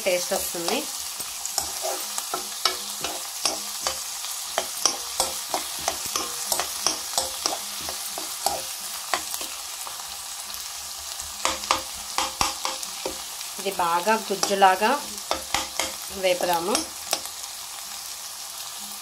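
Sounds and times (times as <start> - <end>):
vegetables sizzling in oil: 0.0 - 19.0
spoon scraping a pan: 0.1 - 17.4.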